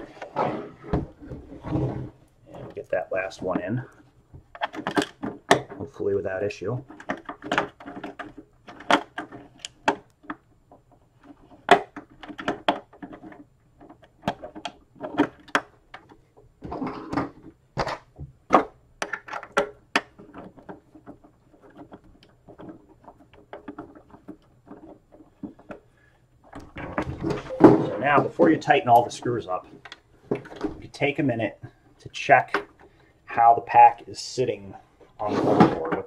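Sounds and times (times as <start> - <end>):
plastic parts clicking and knocking: 0.0 - 34.0.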